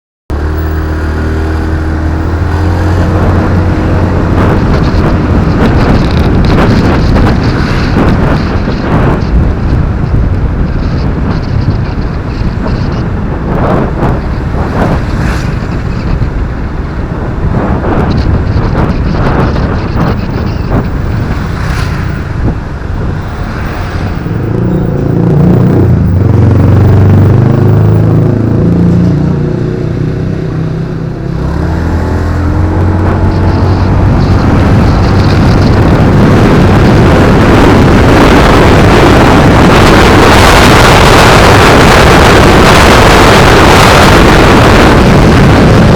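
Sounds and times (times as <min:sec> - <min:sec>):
wind buffeting microphone: 0:00.3 - 0:45.9.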